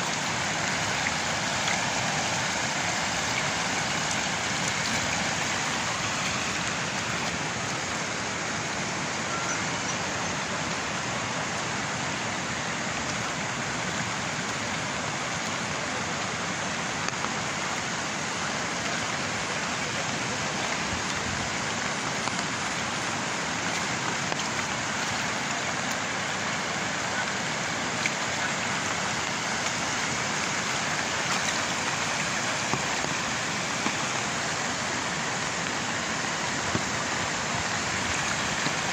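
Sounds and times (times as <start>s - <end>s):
floodwater rushing over walls: 0.0s - 38.9s.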